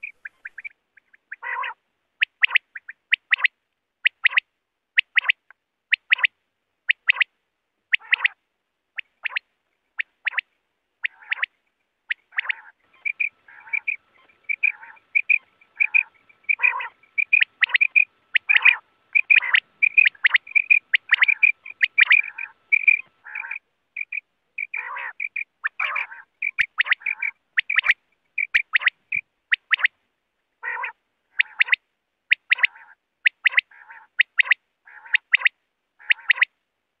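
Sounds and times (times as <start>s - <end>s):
quail calling: 0.0s - 6.3s, 6.9s - 7.3s, 7.9s - 8.4s, 9.0s - 30.0s, 30.6s - 36.5s.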